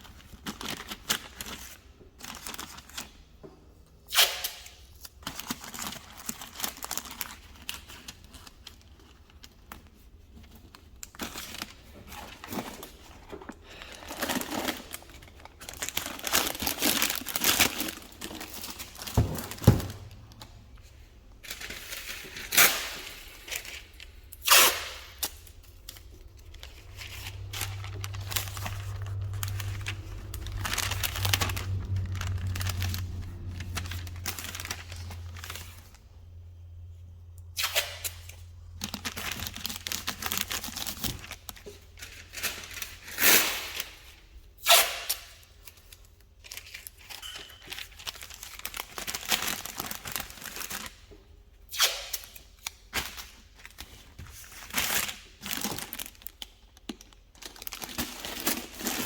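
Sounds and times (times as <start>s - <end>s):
tape and paper crinkling and tearing: 0.0s - 3.3s, 4.0s - 36.0s, 37.5s - 59.0s.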